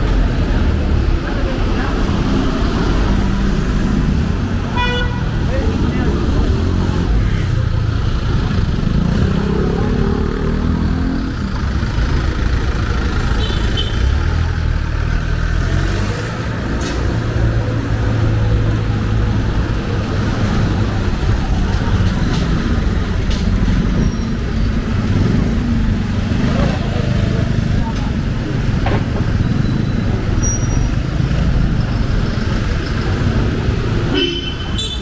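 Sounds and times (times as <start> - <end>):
vehicle engines creeping past: 5.4 - 13.3, 14.0 - 34.1.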